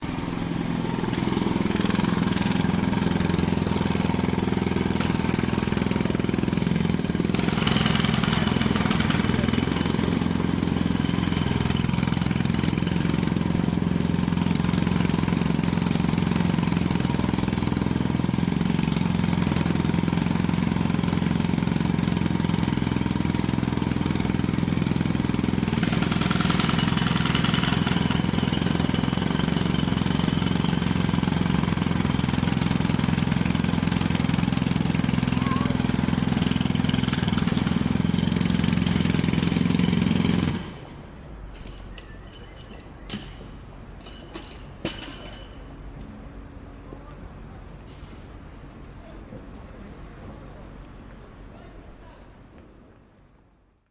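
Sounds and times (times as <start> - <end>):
jackhammer hammering: 0.0 - 41.0, 41.6 - 45.7.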